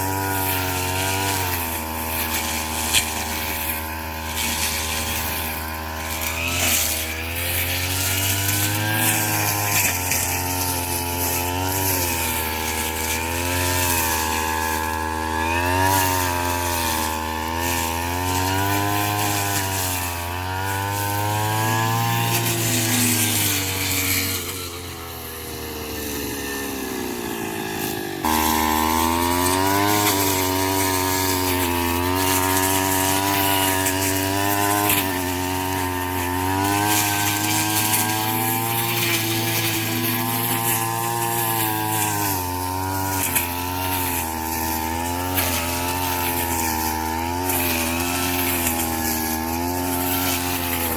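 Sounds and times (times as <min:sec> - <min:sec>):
small engine running hard: 0:00.0 - 0:50.9.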